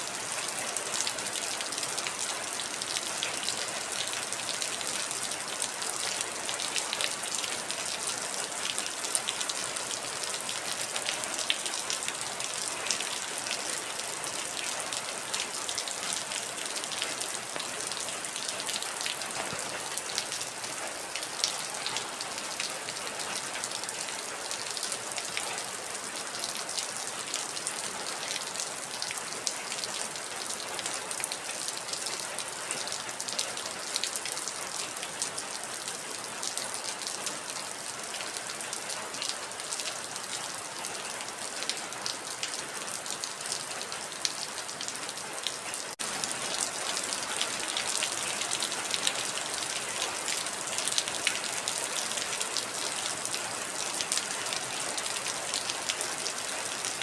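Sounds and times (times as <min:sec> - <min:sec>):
heavy rain falling: 0:00.0 - 0:57.0
raindrops pattering on surface: 0:00.0 - 0:57.0.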